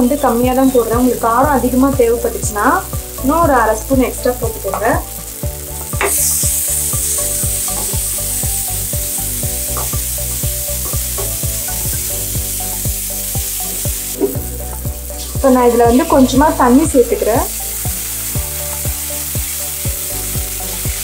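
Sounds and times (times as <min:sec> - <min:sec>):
masala sizzling in oil: 0:00.0 - 0:21.0.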